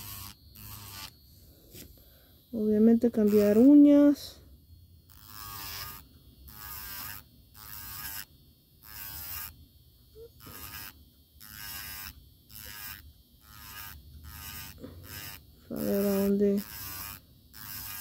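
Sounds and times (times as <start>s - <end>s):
nail drill grinding whine: 0.0s - 18.0s
nail drill low hum: 0.0s - 18.0s.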